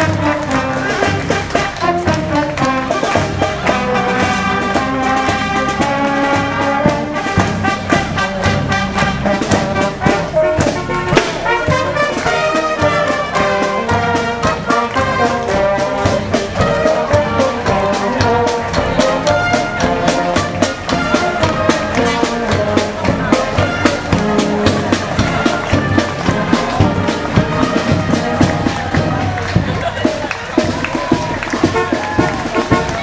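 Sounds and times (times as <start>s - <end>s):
brass band playing: 0.0s - 33.0s
steady drum beat: 0.0s - 33.0s.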